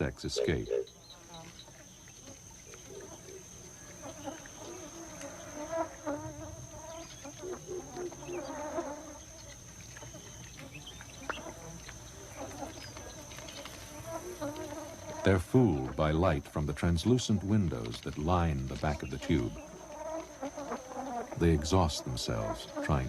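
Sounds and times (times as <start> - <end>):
insect buzzing: 0.0 - 16.1, 17.0 - 23.0.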